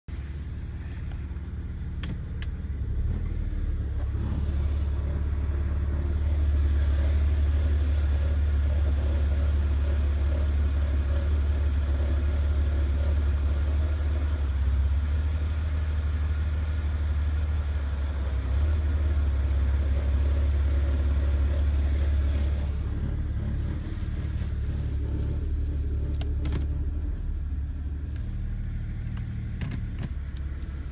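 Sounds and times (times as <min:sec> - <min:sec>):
car engine groaning: 0:00.1 - 0:30.9.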